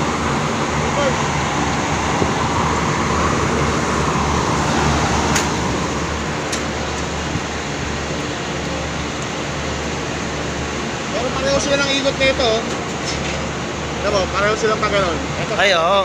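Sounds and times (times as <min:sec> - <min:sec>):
low motor hum: 0:00.0 - 0:15.5
condenser fans rushing air: 0:00.0 - 0:16.0.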